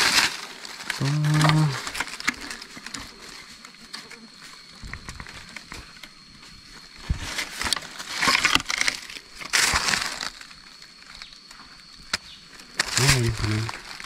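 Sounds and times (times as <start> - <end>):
dry leaves rustling and crunching: 0.0 - 14.0.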